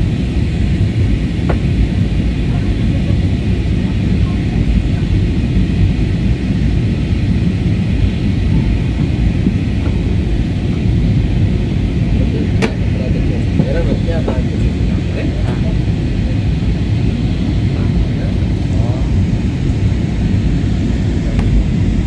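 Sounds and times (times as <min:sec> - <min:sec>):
jet engines roaring in cabin: 0:00.0 - 0:22.0.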